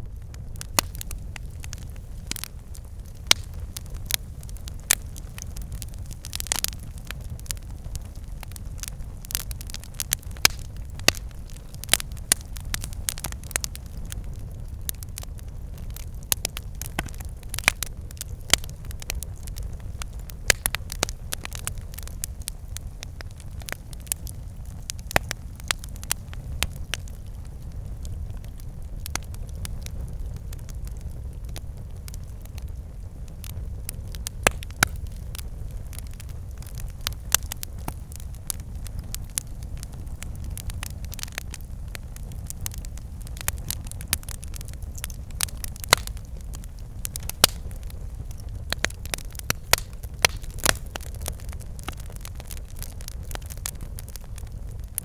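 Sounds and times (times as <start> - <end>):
low rumble of flames: 0.0 - 55.0
wood crackling and popping: 0.0 - 55.0.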